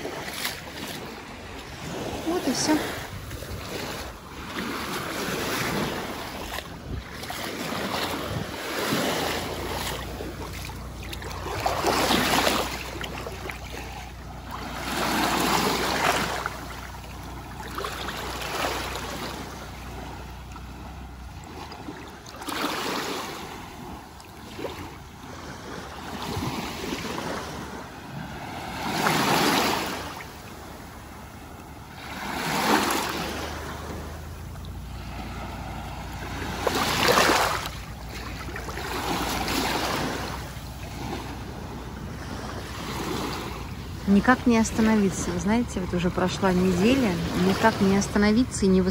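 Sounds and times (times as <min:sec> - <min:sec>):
small waves lapping on shore: 0:00.0 - 0:48.9.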